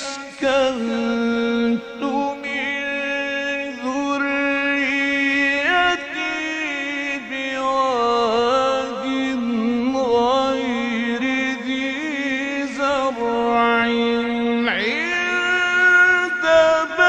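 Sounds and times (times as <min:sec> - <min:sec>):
man reciting in drawn-out melismatic notes: 0:00.0 - 0:17.0.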